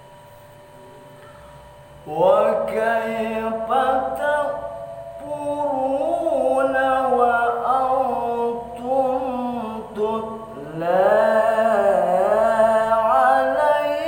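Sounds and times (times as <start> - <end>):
man chanting recitation: 2.0 - 14.0.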